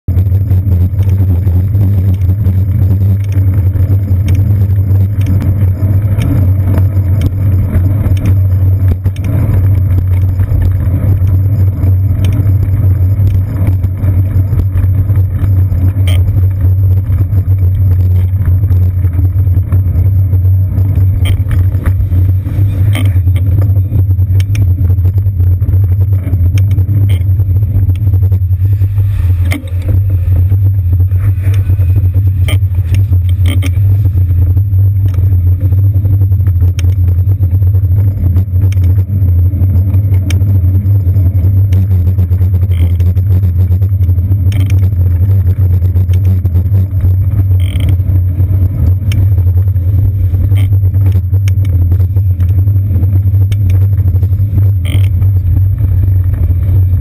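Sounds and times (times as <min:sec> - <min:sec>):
bicycle riding in traffic rumble: 0:00.0 - 0:57.0
small clicks and rattles: 0:00.1 - 0:57.0.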